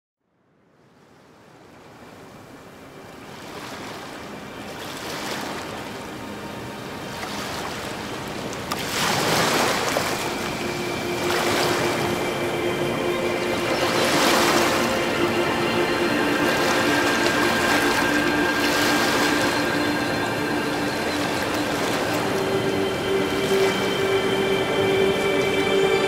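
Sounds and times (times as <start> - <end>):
ocean waves washing in: 0.8 - 26.0
ambient music held tones: 2.0 - 26.0.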